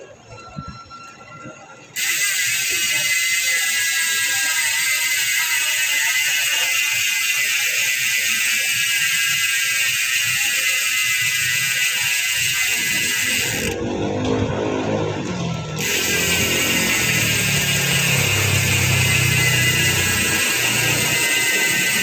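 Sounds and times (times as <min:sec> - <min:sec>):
bicycle freehub clicking buzz: 0:02.0 - 0:22.0.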